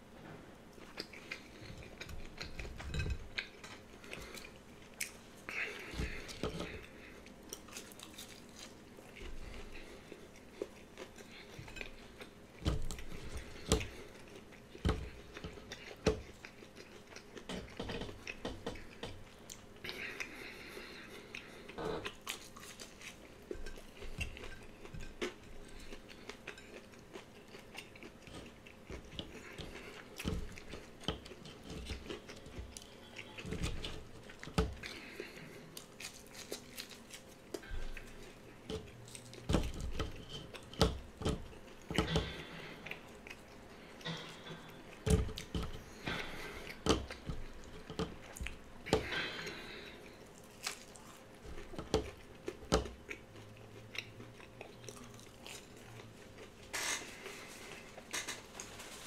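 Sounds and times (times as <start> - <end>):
person chewing crunchy food: 0.7 - 59.0.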